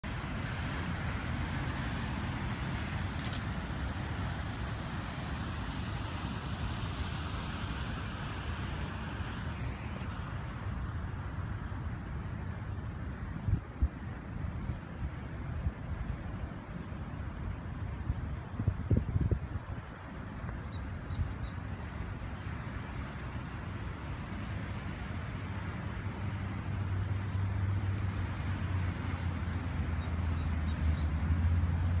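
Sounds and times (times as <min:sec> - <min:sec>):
outdoor rumble and hiss: 0:00.0 - 0:32.0.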